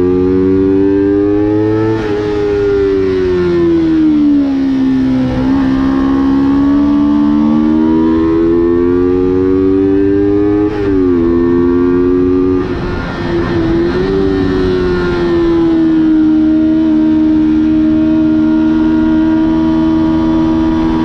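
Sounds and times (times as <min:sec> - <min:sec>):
high-revving small motor whine: 0:00.0 - 0:21.0.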